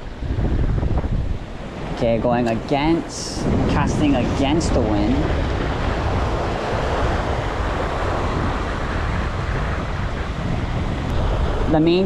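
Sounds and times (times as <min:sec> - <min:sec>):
strong wind buffeting microphone: 0:00.0 - 0:12.0
surf washing against rocks: 0:00.0 - 0:12.0.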